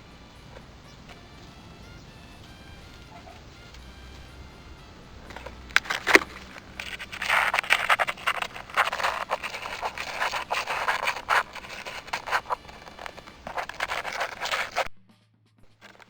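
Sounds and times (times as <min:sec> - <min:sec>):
cat claws scraping bark: 0:00.0 - 0:14.9, 0:15.8 - 0:16.0.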